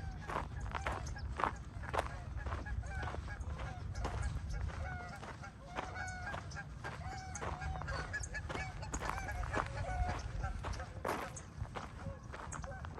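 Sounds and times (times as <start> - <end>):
footsteps on path: 0.0 - 12.9
waterfowl honking: 0.0 - 12.9.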